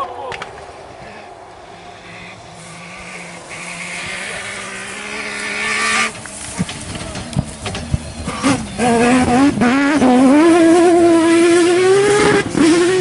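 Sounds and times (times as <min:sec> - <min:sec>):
rally car engine approaching: 0:01.0 - 0:13.0.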